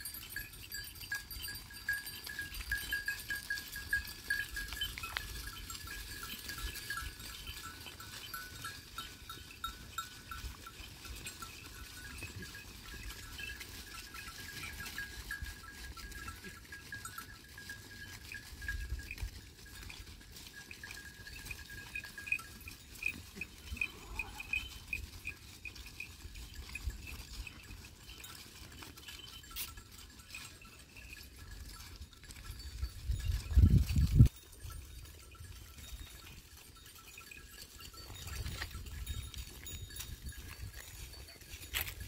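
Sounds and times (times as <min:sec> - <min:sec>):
animal bells clinking and ringing: 0:00.0 - 0:42.0.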